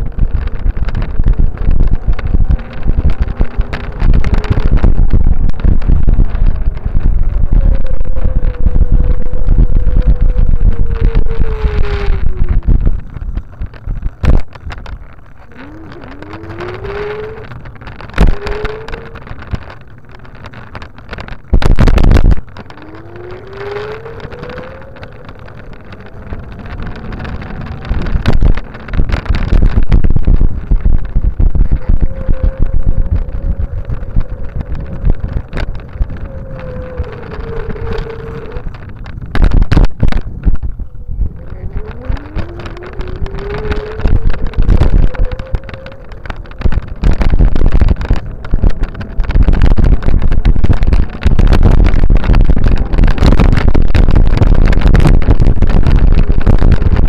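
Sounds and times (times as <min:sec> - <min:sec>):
faint rising whine: 0:00.0 - 0:57.0
wind rushing over microphone: 0:00.0 - 0:57.0.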